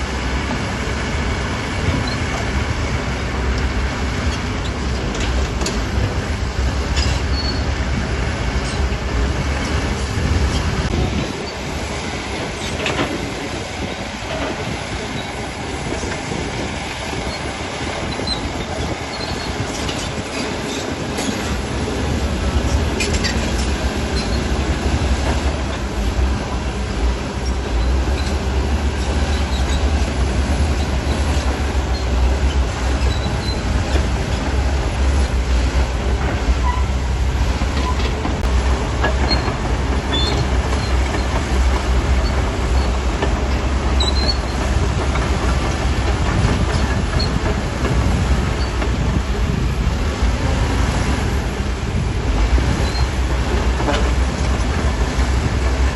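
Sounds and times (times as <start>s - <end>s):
diesel engine rumble: 0.0s - 55.9s
crawler tracks clanking and squealing: 1.6s - 3.0s, 3.6s - 55.9s.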